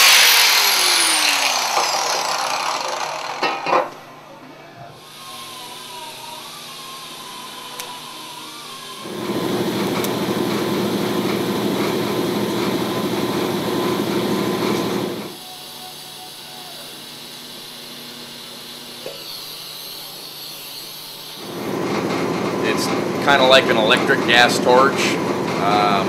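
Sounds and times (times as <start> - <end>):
power tool running: 0.0 - 4.1, 5.0 - 26.0.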